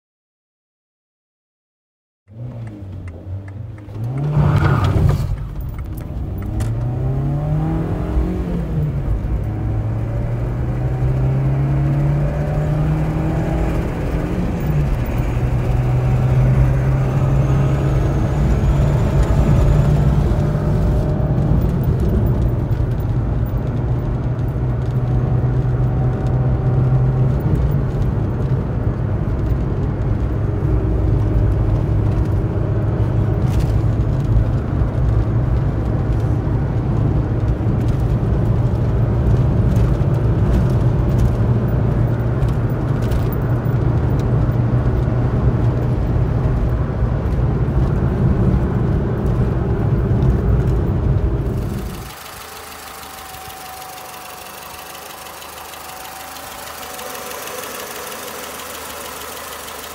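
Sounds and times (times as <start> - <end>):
car engine accelerating through gears: 2.3 - 59.9
road and tyre rumble: 2.3 - 59.9.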